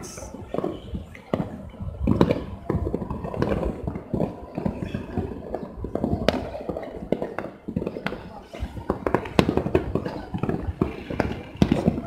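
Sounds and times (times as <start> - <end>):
firecrackers crackling: 0.0 - 12.0
loud firework reports: 0.0 - 12.0.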